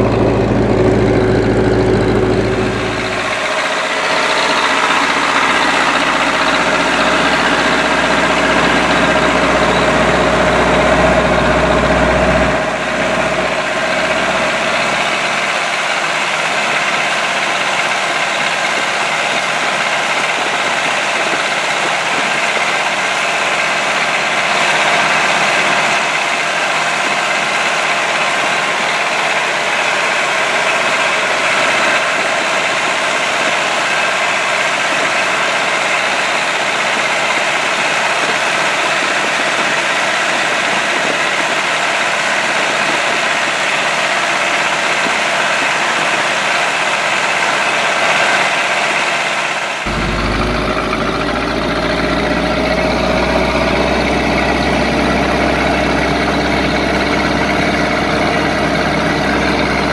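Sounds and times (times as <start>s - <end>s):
tractor diesel engine rumbling: 0.0s - 59.9s.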